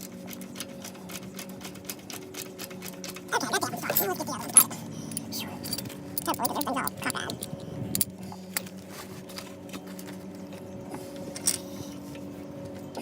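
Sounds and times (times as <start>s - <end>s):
metal tools clinking: 0.0s - 13.0s
steady low hum: 0.0s - 13.0s.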